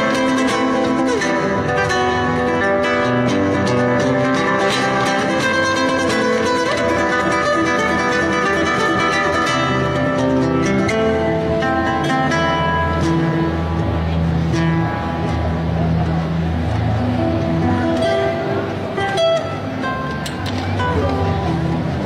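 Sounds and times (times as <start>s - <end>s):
guitar melody with sliding notes: 0.0s - 22.0s.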